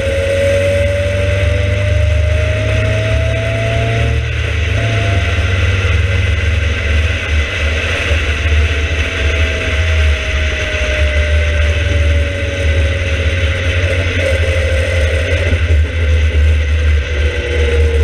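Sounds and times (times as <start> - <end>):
sports car engine: 0.0 - 18.0
thin whine dropping in pitch: 0.0 - 18.0.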